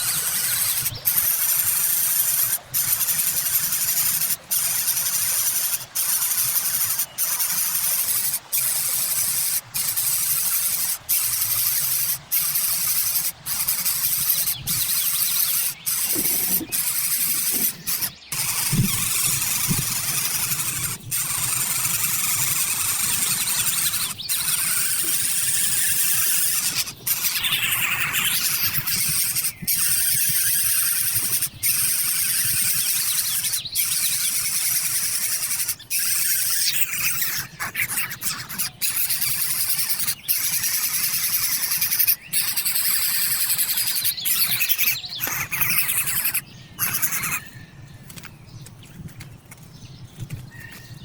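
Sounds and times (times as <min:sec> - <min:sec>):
birds calling with hissing squeal: 0:00.0 - 0:47.8.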